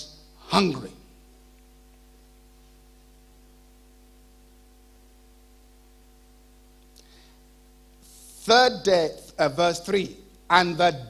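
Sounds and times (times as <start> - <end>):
electrical hum: 0.0 - 11.0
microphone hiss: 0.0 - 11.0.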